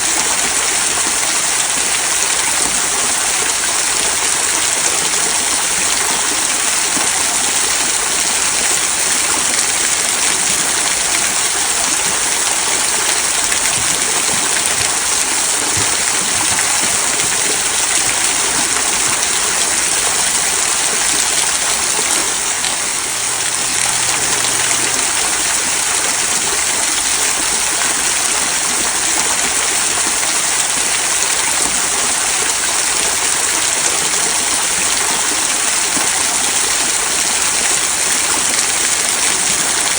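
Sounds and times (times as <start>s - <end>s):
small waterfall splashing on stones: 0.0s - 39.9s.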